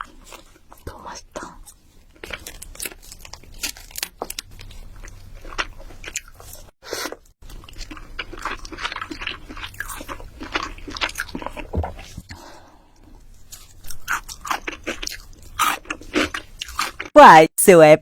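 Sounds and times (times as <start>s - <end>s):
crunchy eating and chewing: 0.0s - 17.1s.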